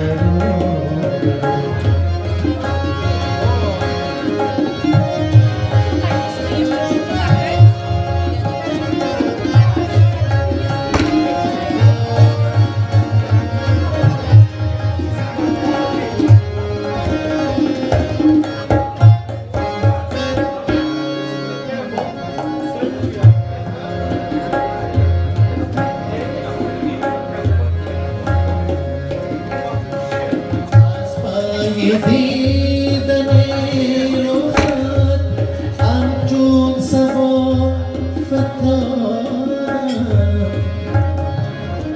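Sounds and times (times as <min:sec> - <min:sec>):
sustained melodic instrument: 0:00.0 - 0:41.9
tabla playing: 0:00.0 - 0:41.9.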